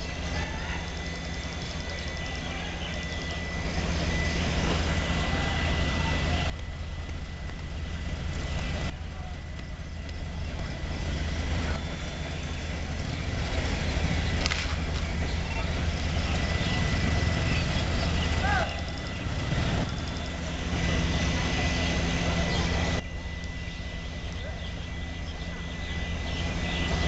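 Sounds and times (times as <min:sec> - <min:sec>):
fire engine engine humming: 0:00.0 - 0:27.0.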